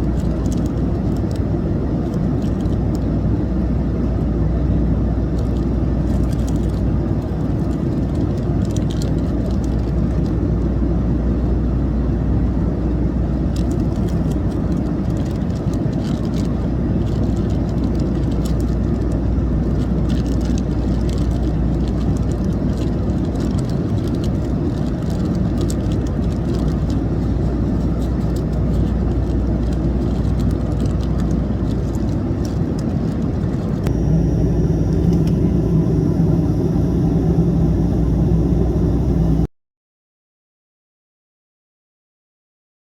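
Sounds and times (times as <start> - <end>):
jet engines rumbling in cabin: 0.0 - 39.5.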